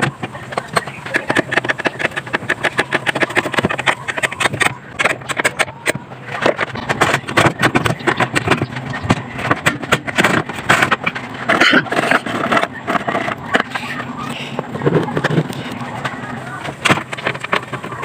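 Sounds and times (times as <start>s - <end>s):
plastic cover clicking and scraping: 0.0s - 18.0s.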